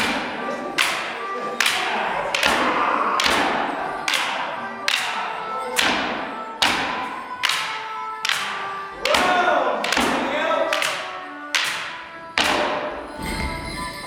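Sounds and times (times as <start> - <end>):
wooden sticks clashing: 0.0 - 13.9.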